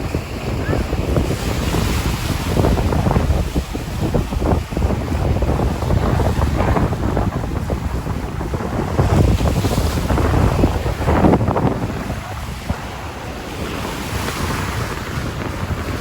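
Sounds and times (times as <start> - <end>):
sea waves washing onto shore: 0.0 - 16.0
wind blowing across microphone: 0.0 - 16.0.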